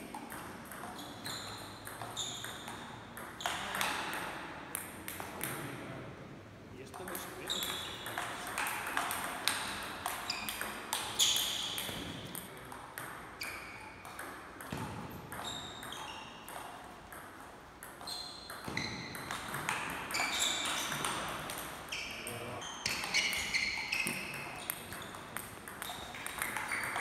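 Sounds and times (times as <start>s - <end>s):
table tennis ball hits: 0.0s - 5.7s, 6.9s - 27.0s.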